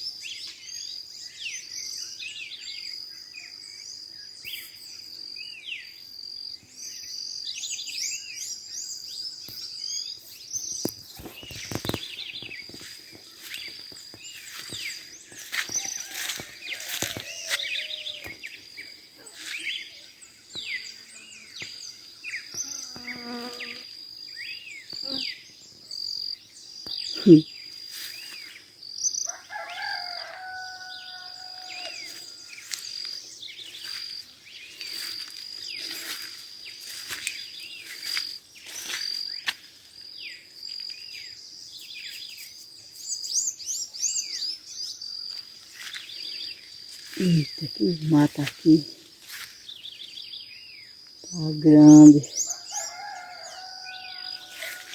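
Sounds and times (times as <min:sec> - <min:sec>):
small birds chirping and trilling: 0:00.0 - 0:54.9.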